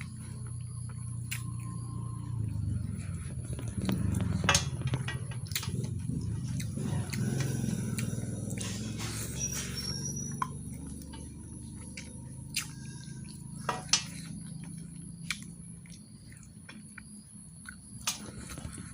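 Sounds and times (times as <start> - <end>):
low steady hum: 0.0 - 18.9
wet chewing: 0.0 - 18.9.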